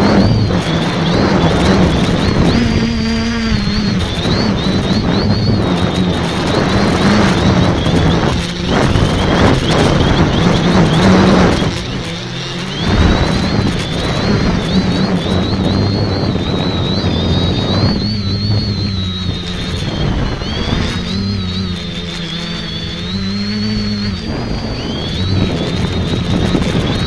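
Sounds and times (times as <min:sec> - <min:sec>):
drone propellers whirring: 0:00.0 - 0:27.0
wind buffeting microphone: 0:00.0 - 0:27.0.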